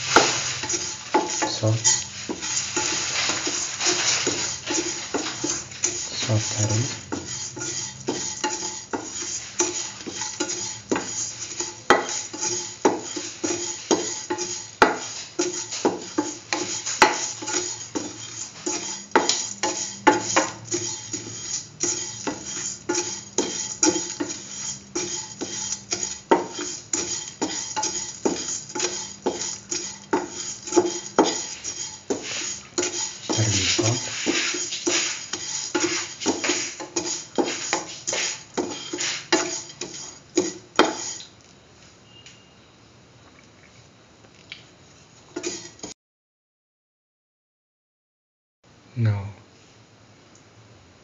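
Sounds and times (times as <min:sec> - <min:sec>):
spatula scraping steel pan: 0:00.0 - 0:41.2, 0:45.3 - 0:45.9.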